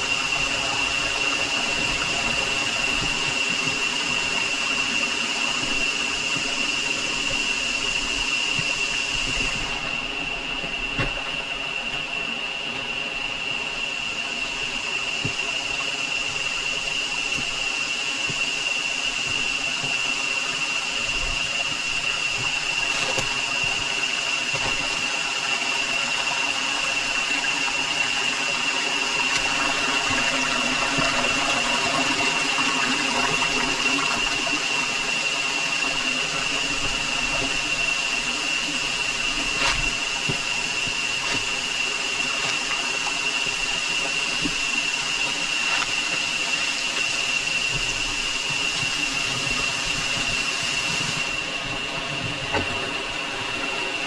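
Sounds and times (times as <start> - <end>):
insects droning: 0.0 - 54.0
stream water flowing: 0.0 - 54.0.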